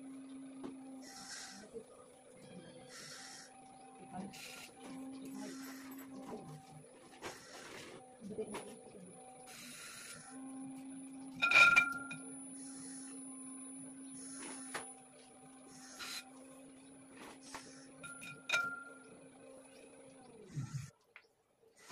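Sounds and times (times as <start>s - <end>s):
potter's wheel humming: 0.0s - 21.0s.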